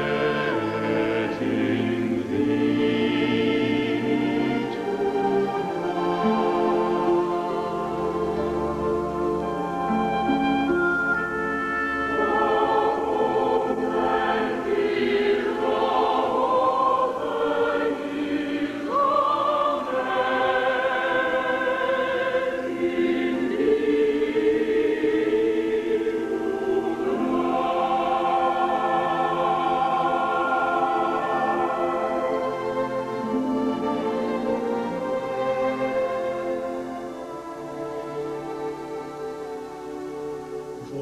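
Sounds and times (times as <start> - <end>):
choir singing: 0.0 - 41.0
orchestra playing: 0.0 - 41.0.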